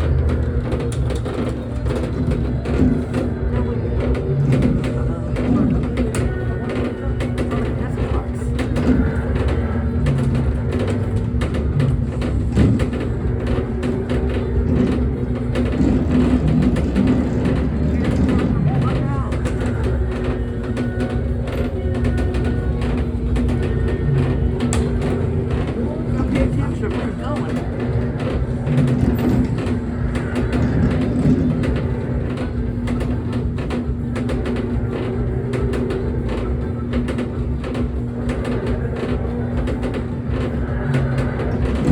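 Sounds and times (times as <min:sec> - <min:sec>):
kiddie ride rumbling: 0:00.0 - 0:41.9
small clicks and rattles: 0:00.0 - 0:41.9.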